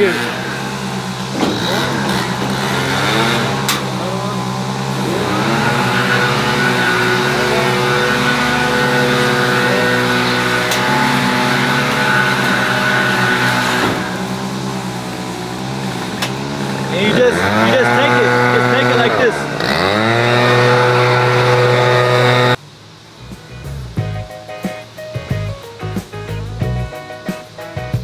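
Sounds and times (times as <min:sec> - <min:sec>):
engine running: 0:00.0 - 0:24.4.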